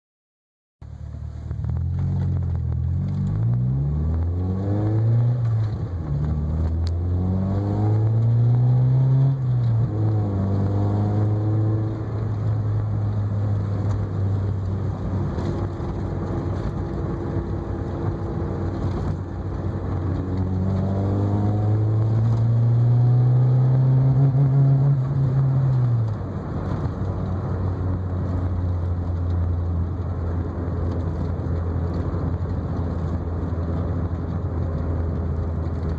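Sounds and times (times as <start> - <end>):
car engine idling and revving: 0.8 - 35.9.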